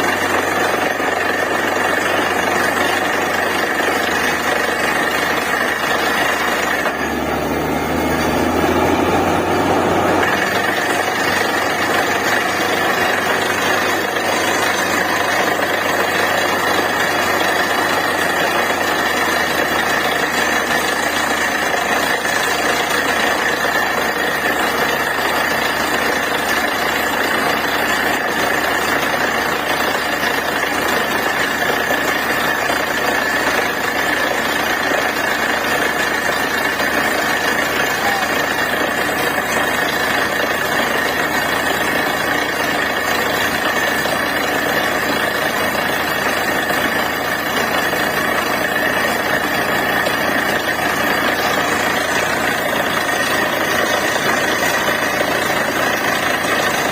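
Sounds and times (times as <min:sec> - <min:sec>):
drilling rig rattling noise: 0:00.0 - 0:56.9.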